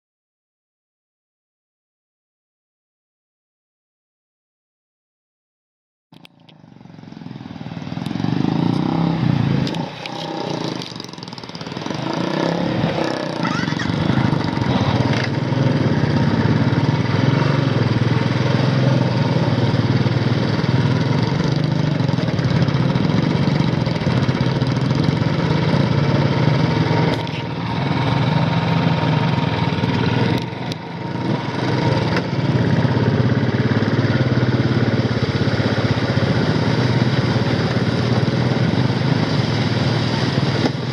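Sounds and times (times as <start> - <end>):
motorcycle engine labouring uphill: 6.2 - 40.9.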